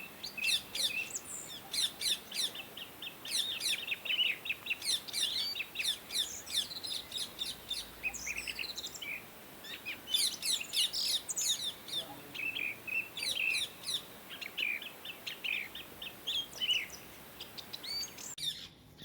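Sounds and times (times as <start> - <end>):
parrots chirping: 0.0 - 18.7.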